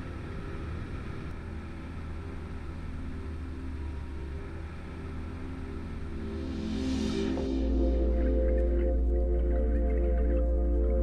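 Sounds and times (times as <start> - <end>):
outboard motor droning: 0.0 - 11.0
water rushing along hull: 0.0 - 11.0.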